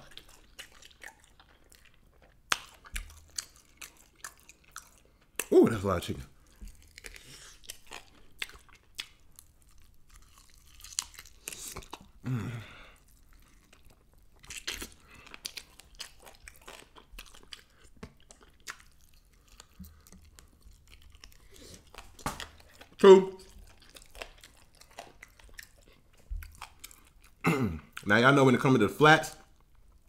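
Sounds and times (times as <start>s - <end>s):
person chewing crunchy chicken: 0.0s - 5.5s, 6.1s - 28.1s.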